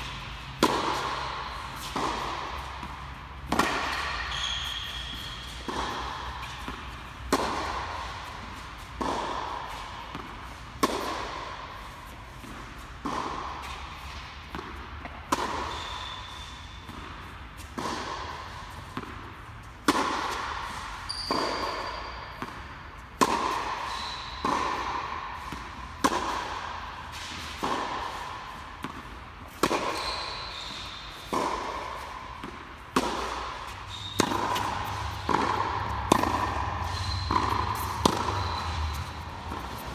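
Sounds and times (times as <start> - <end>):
shoes squeaking on court: 0.0 - 19.7, 20.6 - 26.4, 27.0 - 39.9
ball bouncing on court: 0.0 - 39.9
tennis ball struck by rackets: 0.0 - 39.9.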